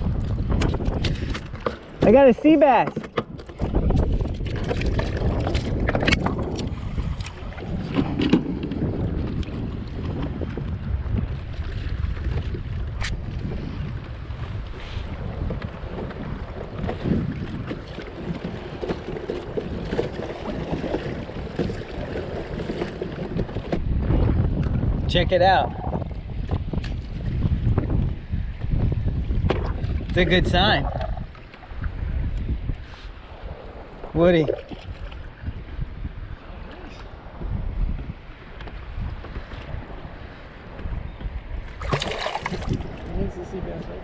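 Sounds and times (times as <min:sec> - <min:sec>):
waves lapping against kayak hull: 0:00.0 - 0:44.0
wind buffeting microphone: 0:00.0 - 0:44.0.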